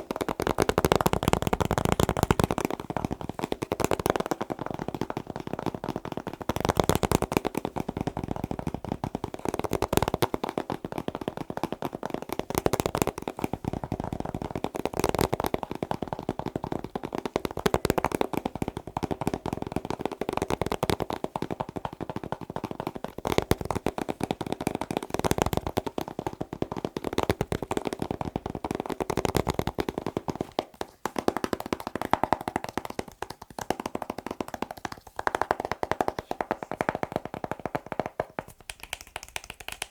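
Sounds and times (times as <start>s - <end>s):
fast tapping on hard object: 0.0s - 39.9s.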